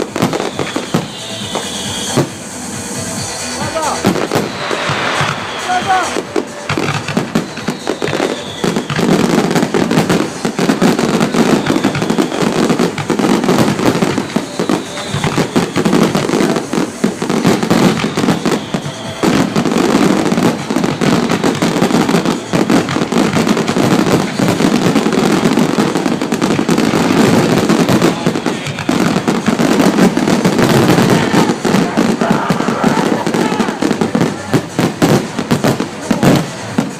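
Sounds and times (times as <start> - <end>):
fireworks bangs and crackle: 0.0 - 36.9.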